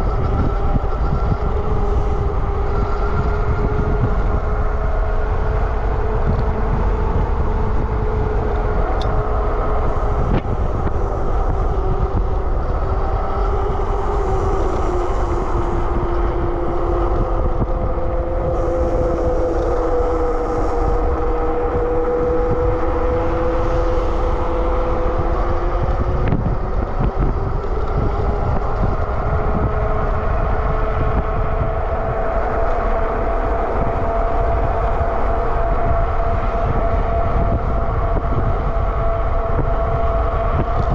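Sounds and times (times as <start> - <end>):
electric motor whine: 0.0 - 40.9
wind and road rumble: 0.0 - 40.9.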